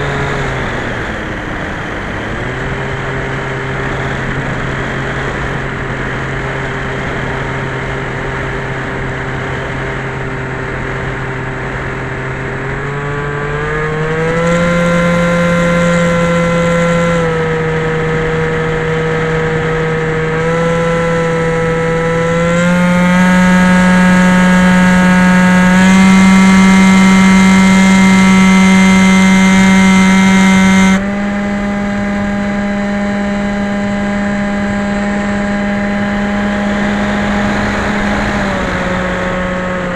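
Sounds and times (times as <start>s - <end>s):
model plane motor humming: 0.0s - 39.9s.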